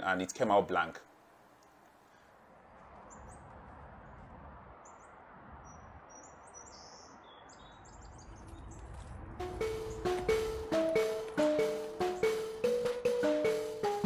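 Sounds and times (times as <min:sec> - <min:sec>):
small birds chirping: 0:01.6 - 0:14.0.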